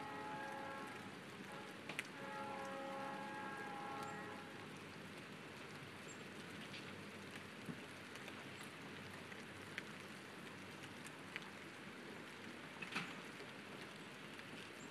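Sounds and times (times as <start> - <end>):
light rain falling: 0.0 - 14.9.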